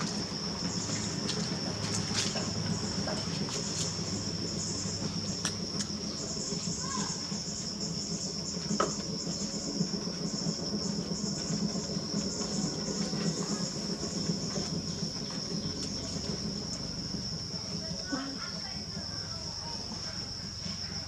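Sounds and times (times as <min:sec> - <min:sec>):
insects chirring: 0:00.0 - 0:21.0
potter's wheel rumbling: 0:00.0 - 0:21.0.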